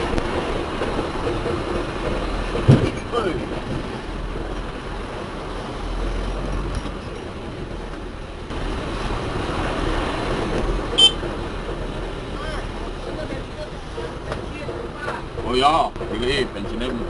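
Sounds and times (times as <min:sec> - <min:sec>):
engine hum: 0:00.0 - 0:17.0
road noise: 0:00.0 - 0:17.0.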